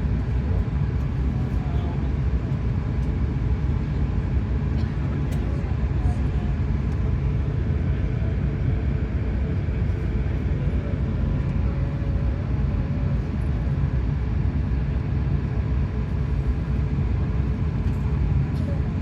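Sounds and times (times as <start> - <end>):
low rumble of engines and airflow: 0.0 - 19.0.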